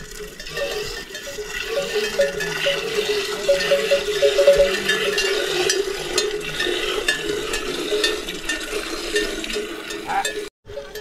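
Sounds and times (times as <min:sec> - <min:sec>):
livestock bells clinking: 0:00.0 - 0:11.0.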